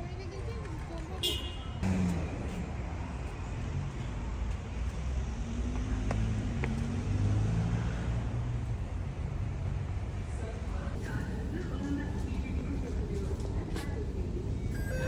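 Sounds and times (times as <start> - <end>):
road traffic rumble: 0.0 - 15.0
vehicle engine: 0.6 - 14.7.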